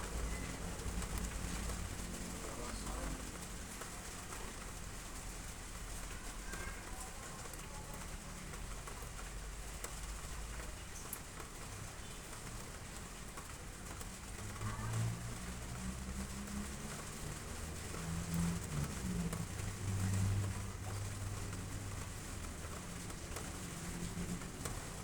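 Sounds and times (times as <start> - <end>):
rain on roof tiles: 0.0 - 25.0.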